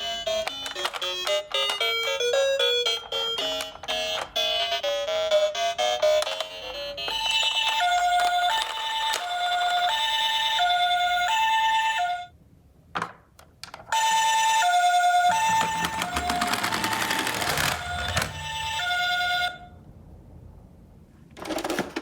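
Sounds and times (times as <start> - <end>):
toy two-tone siren: 0.0 - 12.3, 14.0 - 19.7.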